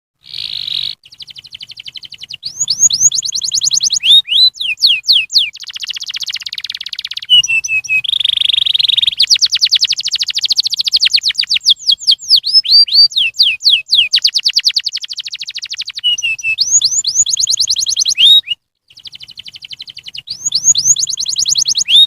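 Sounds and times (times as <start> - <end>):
canary singing trills: 0.2 - 22.0.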